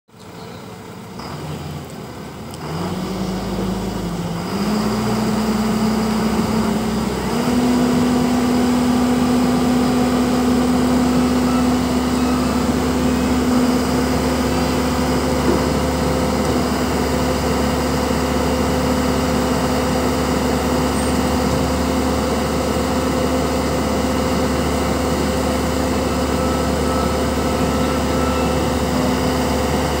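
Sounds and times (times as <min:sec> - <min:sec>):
diesel engine revving: 0:01.1 - 0:30.0.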